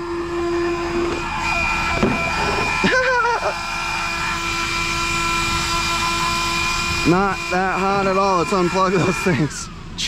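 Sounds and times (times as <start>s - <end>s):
brief wavering hum: 0.0s - 9.8s
small cooling fans whining: 0.0s - 10.0s.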